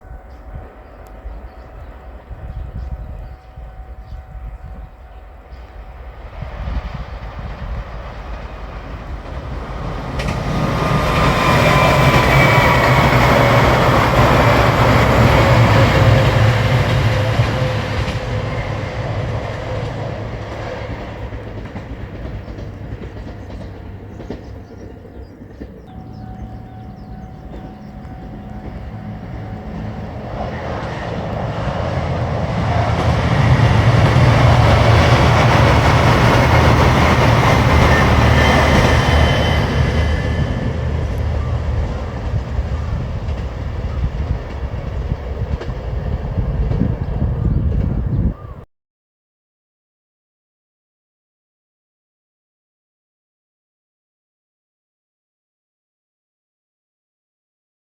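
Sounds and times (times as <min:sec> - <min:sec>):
diesel train passing: 0:00.0 - 0:48.6.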